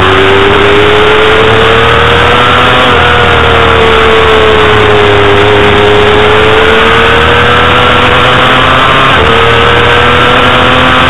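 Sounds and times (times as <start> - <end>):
motorcycle engine revving high: 0.0 - 11.0.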